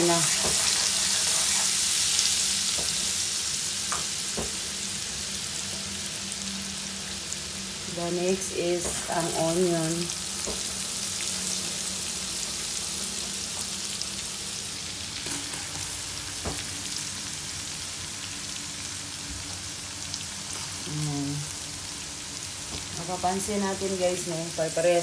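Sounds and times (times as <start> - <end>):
garlic and onion sizzling: 0.0 - 25.0.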